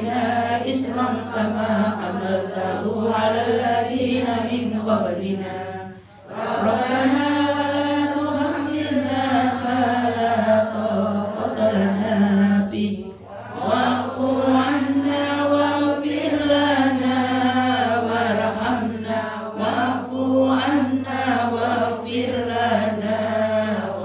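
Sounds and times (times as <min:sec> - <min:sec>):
woman chanting over loudspeaker: 0:00.0 - 0:24.0.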